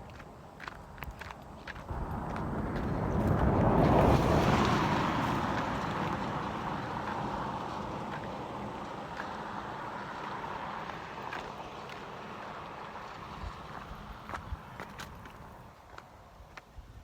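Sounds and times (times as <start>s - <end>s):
vehicle passing by: 1.9s - 15.7s.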